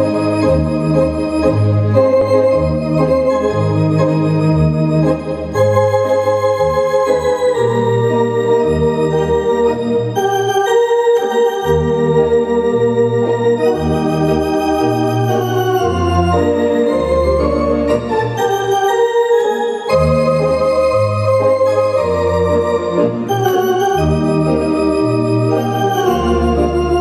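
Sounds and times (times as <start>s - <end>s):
theatre organ playing: 0.0s - 27.0s.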